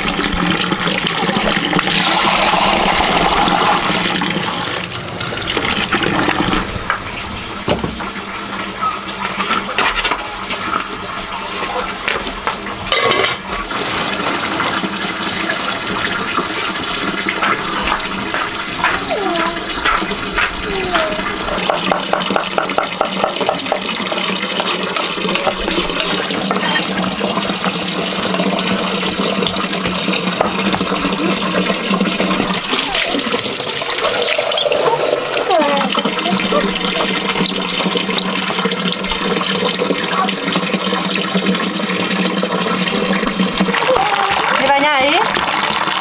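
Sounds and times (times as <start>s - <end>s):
water rushing: 0.0s - 9.1s, 13.8s - 46.0s.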